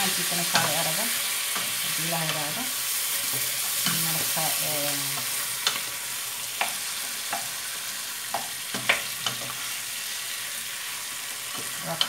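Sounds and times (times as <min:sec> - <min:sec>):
chicken sizzling in pot: 0:00.0 - 0:12.0.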